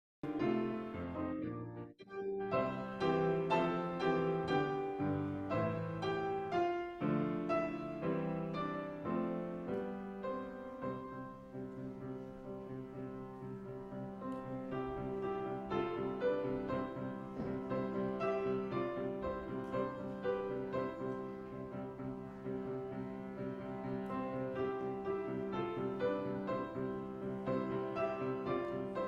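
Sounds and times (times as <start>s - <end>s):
piano playing slow chords: 0.2s - 29.0s.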